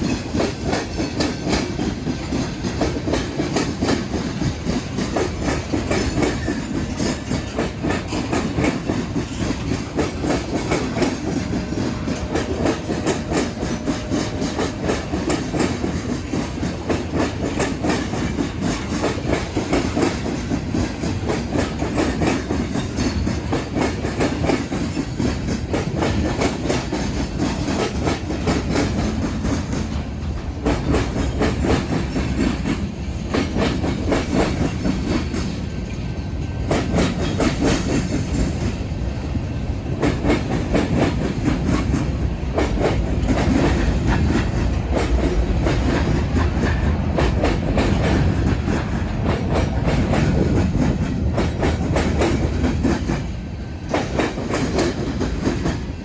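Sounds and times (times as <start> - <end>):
train rumble: 0.0 - 56.0
train wheels clattering over crossing: 0.0 - 56.0.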